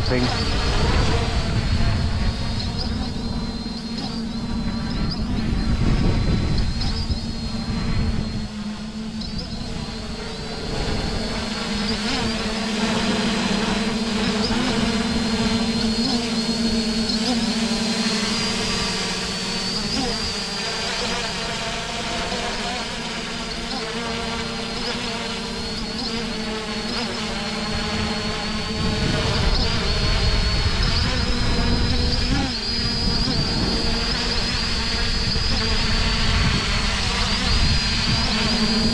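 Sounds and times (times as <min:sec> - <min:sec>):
quadcopter buzzing hum: 0:00.0 - 0:38.9.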